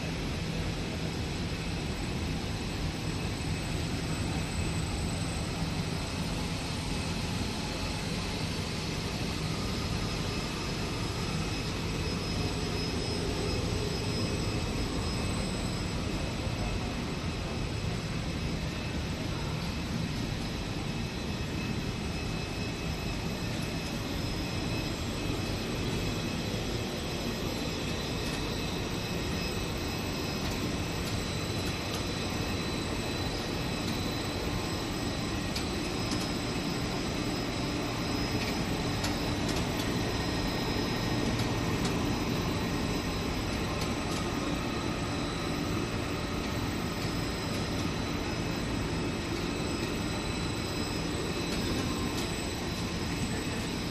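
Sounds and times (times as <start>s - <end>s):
machinery hum and hiss: 0.0s - 53.9s.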